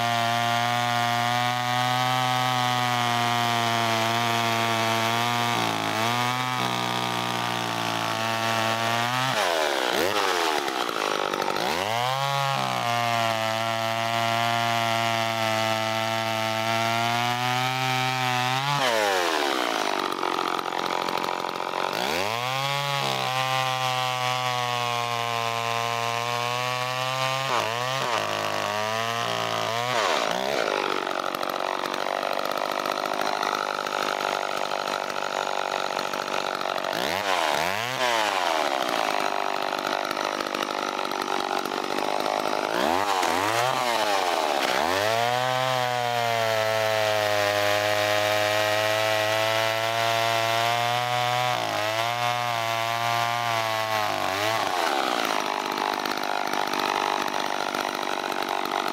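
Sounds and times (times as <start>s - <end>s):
chainsaw cutting logs: 0.0s - 58.9s.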